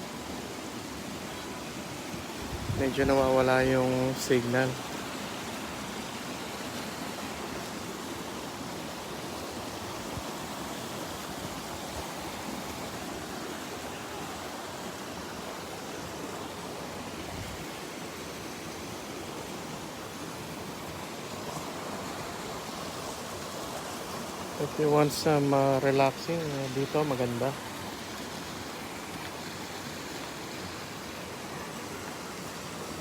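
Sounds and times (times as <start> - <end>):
water flowing in a stream: 0.0 - 33.0.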